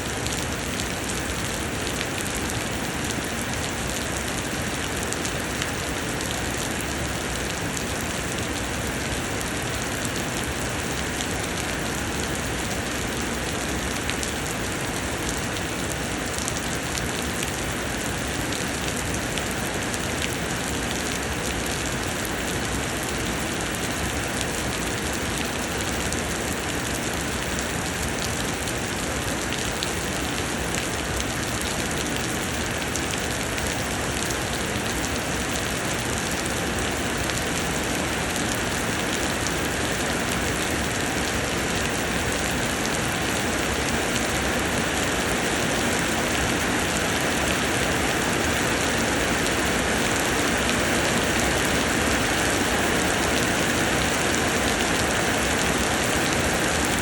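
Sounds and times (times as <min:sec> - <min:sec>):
rain pouring down: 0:00.0 - 0:57.0.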